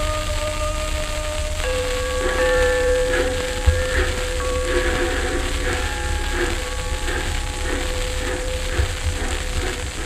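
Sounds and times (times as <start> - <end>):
held musical tones: 0.0 - 10.0
record surface crackle: 0.0 - 10.0.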